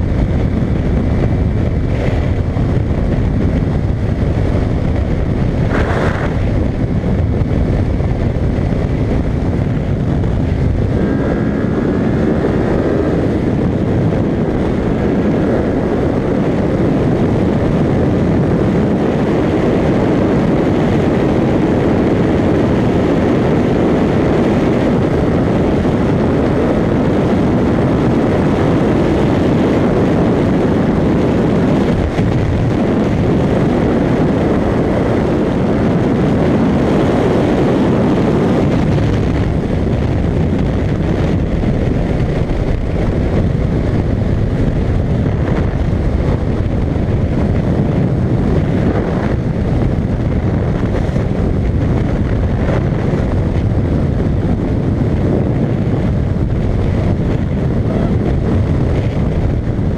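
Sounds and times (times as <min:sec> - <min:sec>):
motorcycle engine drone: 0:00.0 - 0:59.9
wind rushing on microphone: 0:00.0 - 0:59.9.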